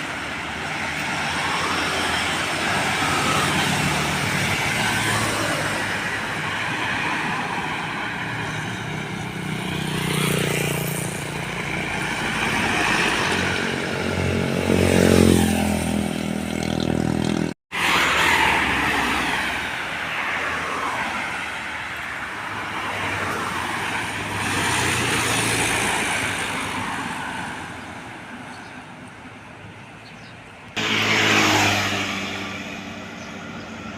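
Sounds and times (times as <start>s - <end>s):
trucks passing: 0.0s - 33.9s.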